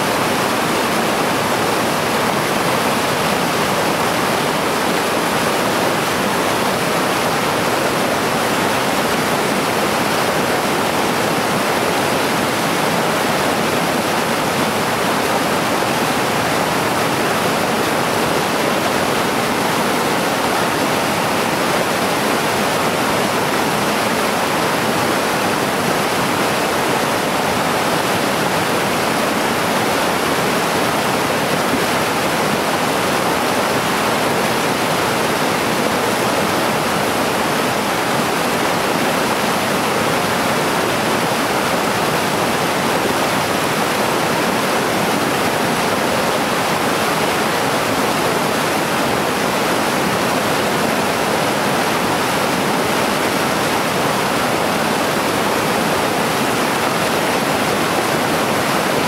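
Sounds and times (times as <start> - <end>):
stream rushing over waterfalls: 0.0 - 59.0.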